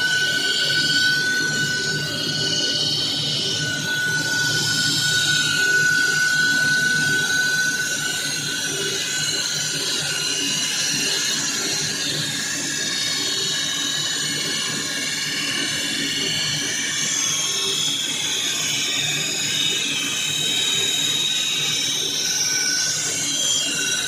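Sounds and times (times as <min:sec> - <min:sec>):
saw cutting concrete: 0:00.0 - 0:24.0.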